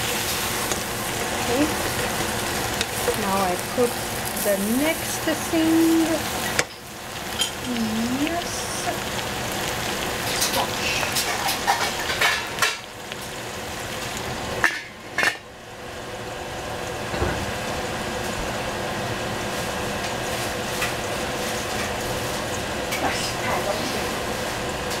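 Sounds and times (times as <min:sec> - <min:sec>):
vegetables sizzling in a pot: 0:00.0 - 0:25.0.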